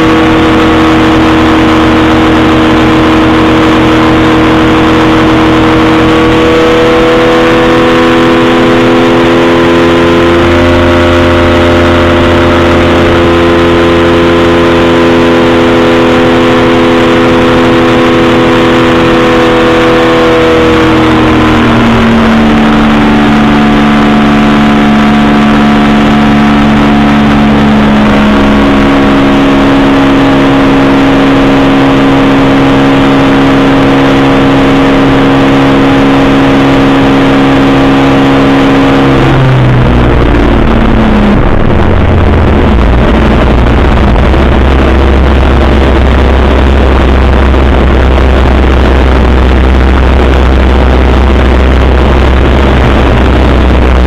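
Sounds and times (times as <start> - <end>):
engine and propeller in flight: 0.0 - 54.0.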